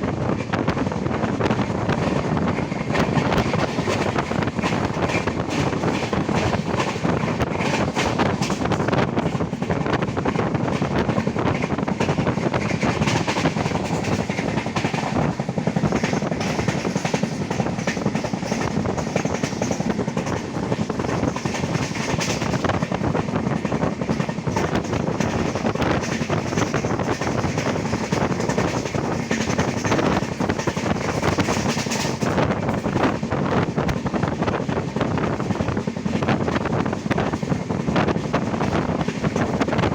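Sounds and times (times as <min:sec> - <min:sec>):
train rumble and air rush: 0:00.0 - 0:39.9.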